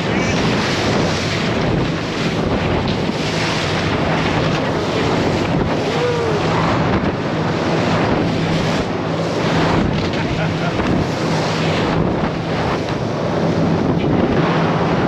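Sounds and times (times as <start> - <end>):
boat engines humming: 0.0 - 15.0
rushing water: 0.0 - 15.0
wind buffeting microphone: 0.0 - 15.0.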